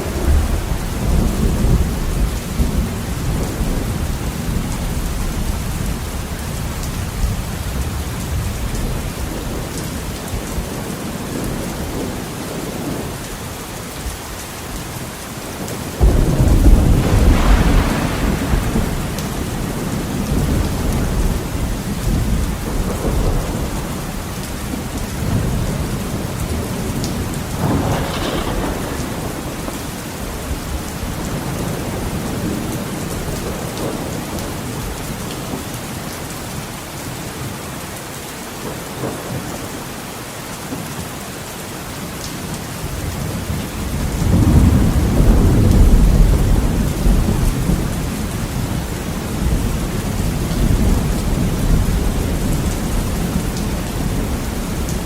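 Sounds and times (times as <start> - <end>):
rolling thunder: 0.0 - 13.2, 15.6 - 35.3, 43.0 - 55.0
heavy rain on a window: 0.0 - 55.0.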